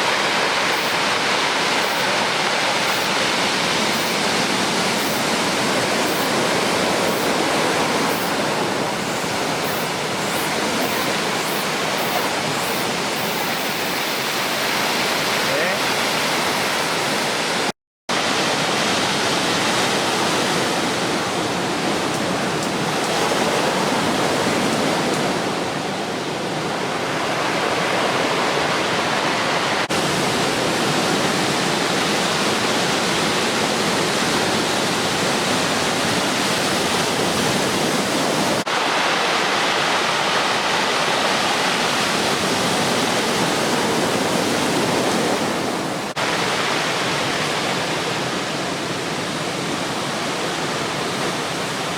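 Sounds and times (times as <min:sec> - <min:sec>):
waves breaking on beach: 0:00.0 - 0:51.9.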